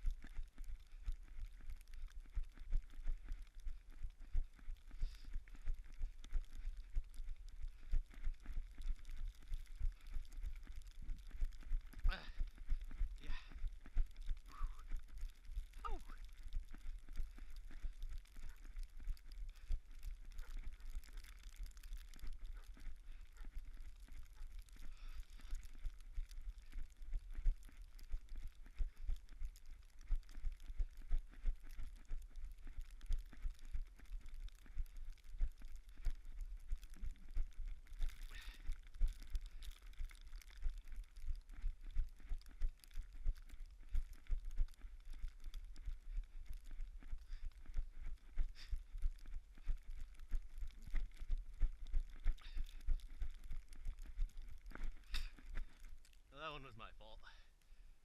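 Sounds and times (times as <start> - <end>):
running footsteps on snow: 0.0 - 57.4.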